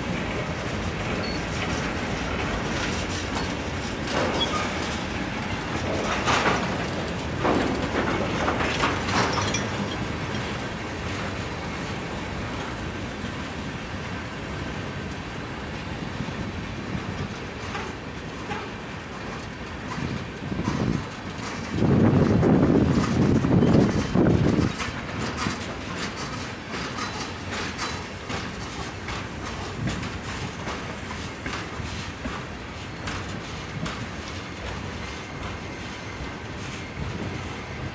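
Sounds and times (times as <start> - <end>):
train wheels rumbling on track: 0.0 - 37.9.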